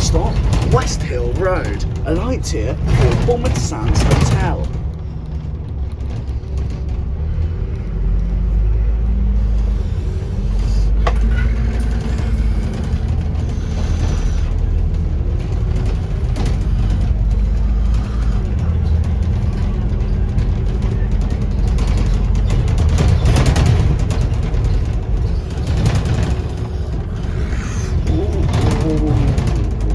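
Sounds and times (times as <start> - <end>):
bus diesel engine rumbling: 0.0 - 29.9.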